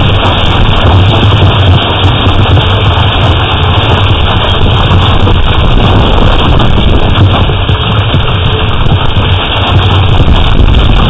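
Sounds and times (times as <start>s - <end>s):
hail and rain falling on concrete: 0.0s - 11.0s.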